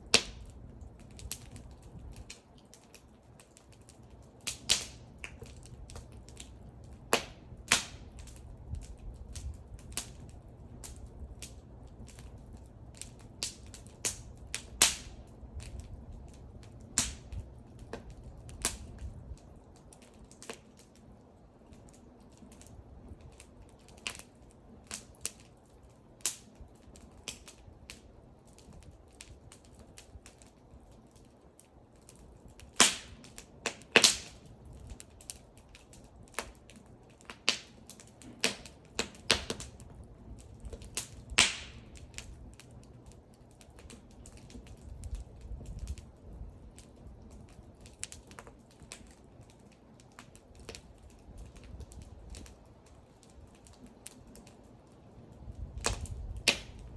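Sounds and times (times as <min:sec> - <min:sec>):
loud cracks of burning wood: 0:00.0 - 0:56.9
wood fire crackling: 0:00.0 - 0:56.9.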